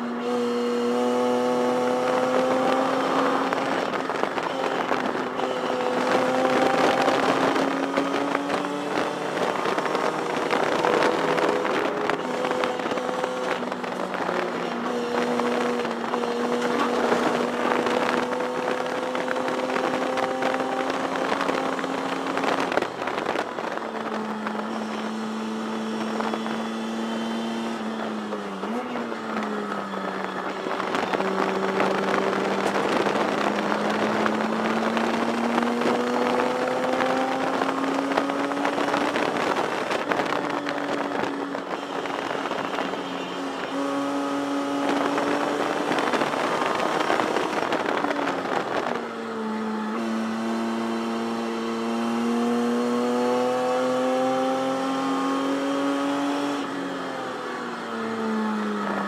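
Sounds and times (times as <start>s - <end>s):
race car engine revving: 0.0s - 57.4s.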